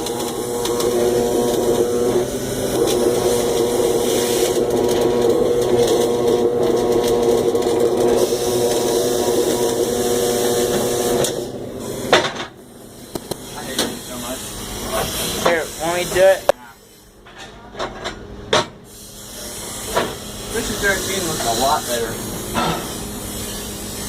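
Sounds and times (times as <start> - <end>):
welding arc crackling: 0.0 - 16.6, 19.0 - 24.0
welding machine humming: 0.0 - 17.2, 18.8 - 24.0.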